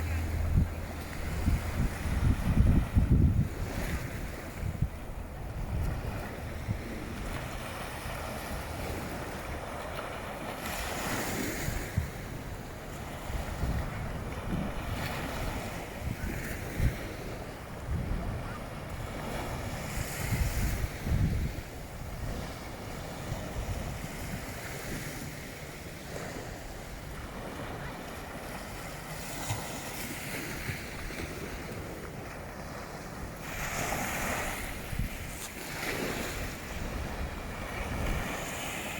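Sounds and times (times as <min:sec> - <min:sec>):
gusty wind buffeting microphone: 0:00.0 - 0:27.8, 0:29.3 - 0:38.9
waves breaking on a beach: 0:00.0 - 0:38.9.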